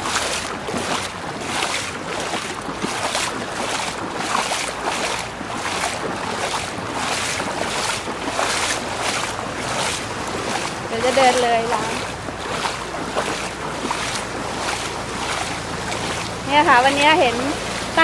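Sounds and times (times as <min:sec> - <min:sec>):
footsteps wading through water: 0:00.0 - 0:18.0.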